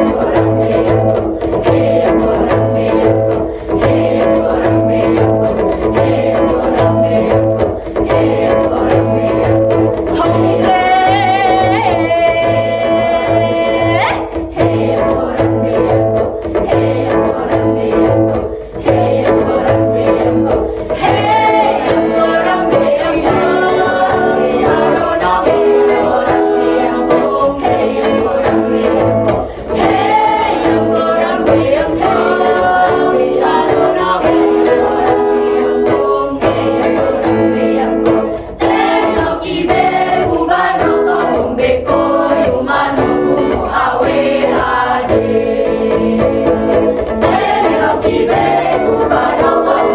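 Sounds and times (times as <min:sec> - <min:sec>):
choir singing in parts: 0:00.0 - 0:49.9
instrumental accompaniment: 0:00.0 - 0:49.9.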